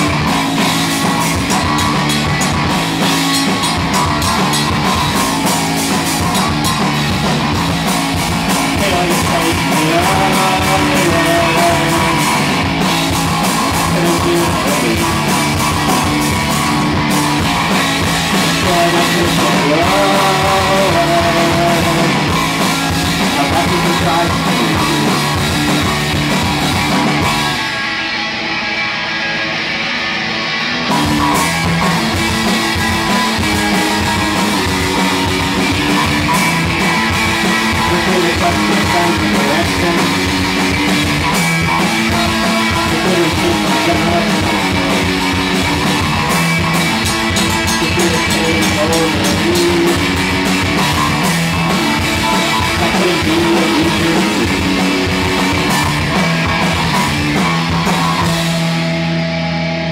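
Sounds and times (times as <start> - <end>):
bass guitar: 0.0 - 59.9
distorted electric guitar: 0.0 - 59.9
drum kit: 0.0 - 59.9.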